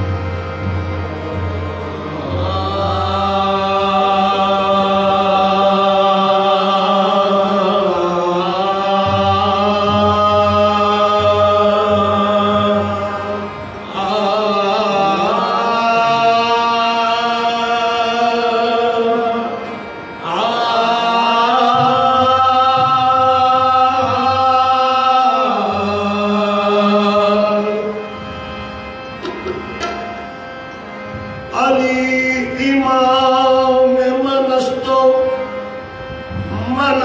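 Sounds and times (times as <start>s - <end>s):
man singing long notes: 0.0s - 28.6s, 31.4s - 37.0s
harmonium: 0.0s - 37.0s.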